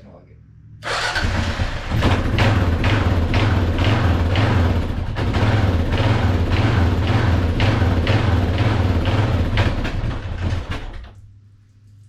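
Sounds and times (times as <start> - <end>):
motorcycle engine running on choke: 1.1 - 11.2.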